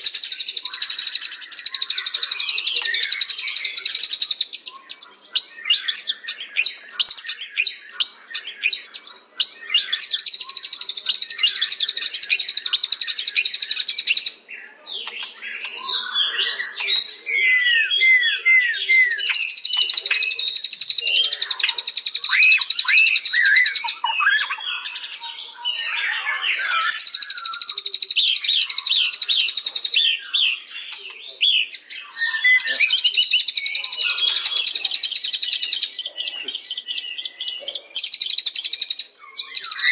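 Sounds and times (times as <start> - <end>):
songbird whistled notes: 0.0 - 39.9.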